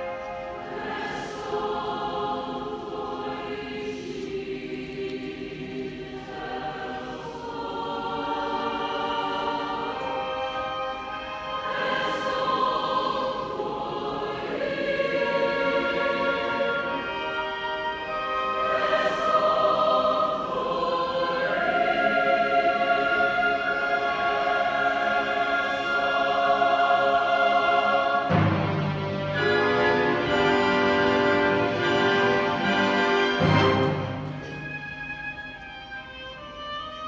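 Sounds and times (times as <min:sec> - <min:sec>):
choir singing held chords: 0:00.0 - 0:37.0
symphony orchestra: 0:00.0 - 0:37.0.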